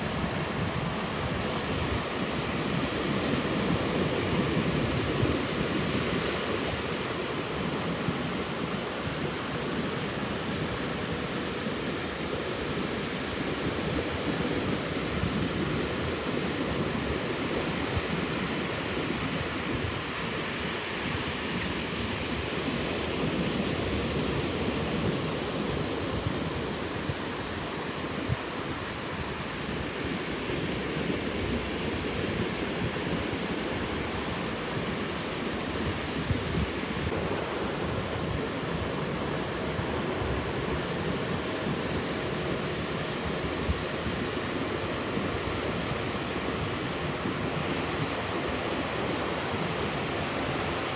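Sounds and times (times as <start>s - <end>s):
ocean surf roaring: 0.0s - 50.9s
wind buffeting microphone: 0.0s - 50.9s.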